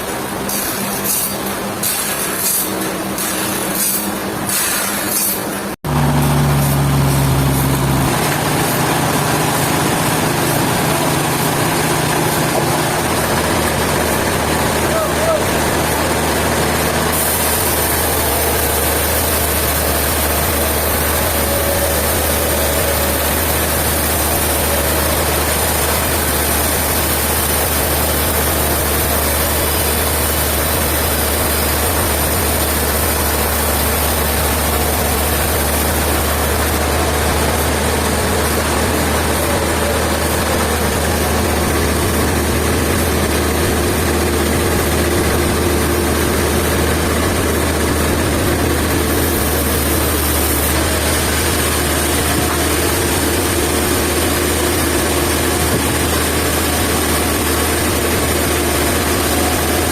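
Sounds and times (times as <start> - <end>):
sawmill machinery low hum: 0.0 - 59.9.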